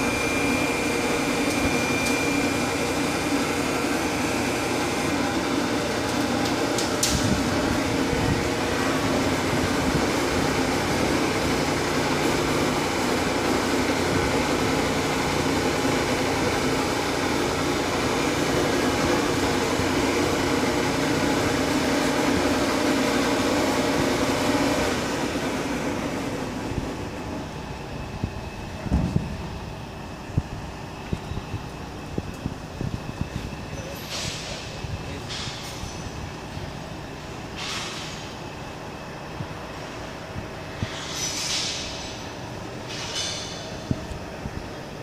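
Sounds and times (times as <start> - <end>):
hydraulic pump running: 0.0 - 45.0.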